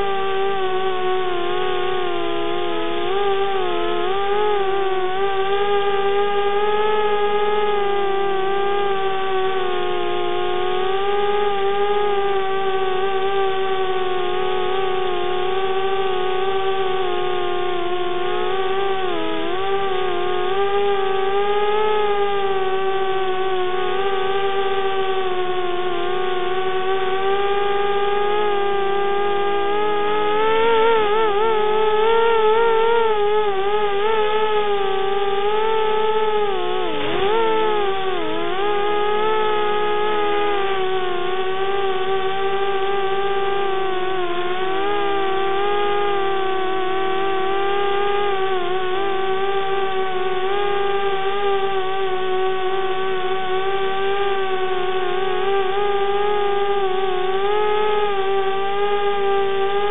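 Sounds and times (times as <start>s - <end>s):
quadcopter propellers whining: 10.4s - 59.9s.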